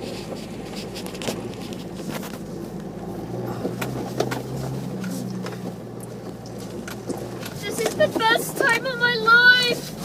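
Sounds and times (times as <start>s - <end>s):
off-road vehicle engine: 0.0s - 10.0s
vehicle knocks and rattles: 0.0s - 10.0s.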